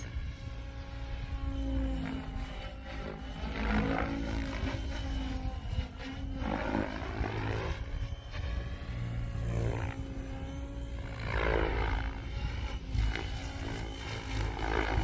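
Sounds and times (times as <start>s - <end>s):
model helicopter rotor whine: 0.0s - 15.0s.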